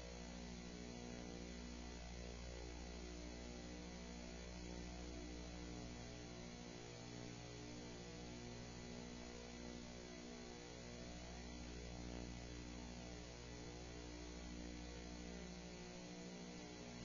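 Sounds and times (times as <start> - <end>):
faint electrical mains hum: 0.0 - 17.0.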